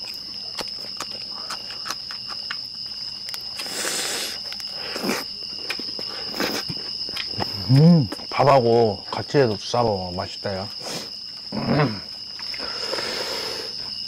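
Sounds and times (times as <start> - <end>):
person chewing crunchy food: 0.0 - 8.3, 10.8 - 14.0
crickets trilling: 0.0 - 14.0.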